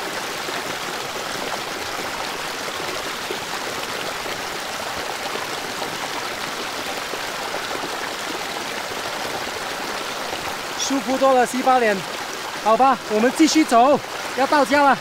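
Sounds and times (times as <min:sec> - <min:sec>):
creek running over stones: 0:00.0 - 0:15.0.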